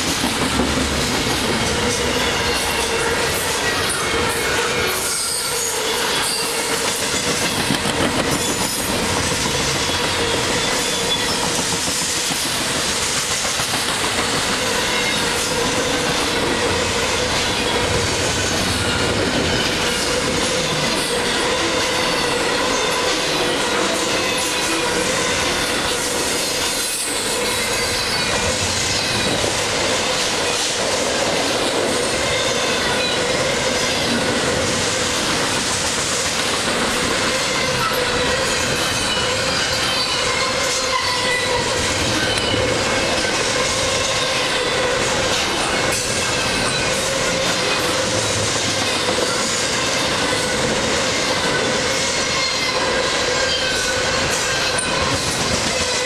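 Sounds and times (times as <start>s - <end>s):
freight train rolling past: 0.0s - 56.0s
train wheels clacking and squealing: 0.0s - 56.0s.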